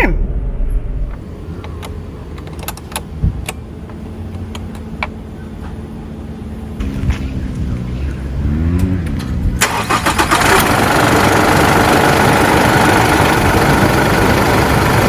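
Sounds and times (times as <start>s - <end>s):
car engine running: 0.0s - 15.0s
engine and road noise rushing: 0.0s - 15.0s.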